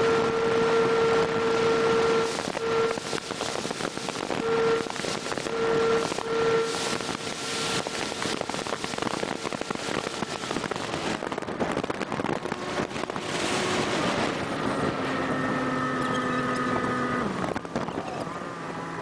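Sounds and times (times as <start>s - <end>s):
wind on microphone: 0.0s - 18.4s
outboard motor hum: 0.0s - 19.0s.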